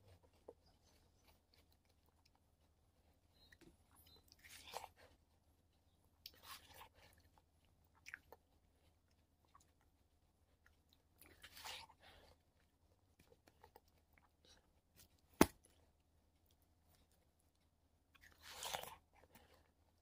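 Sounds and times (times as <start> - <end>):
chewing crackles: 0.0 - 20.0.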